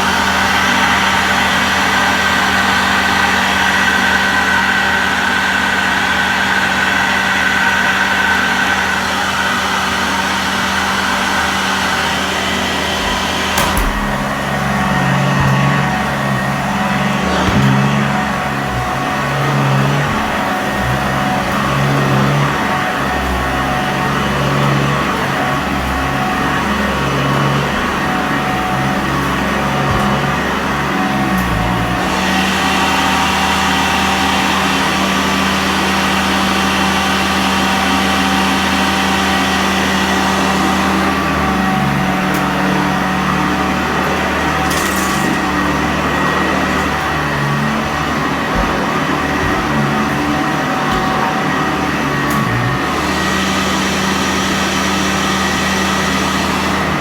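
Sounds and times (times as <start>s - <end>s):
upright vacuum cleaner on carpet: 0.0s - 57.0s.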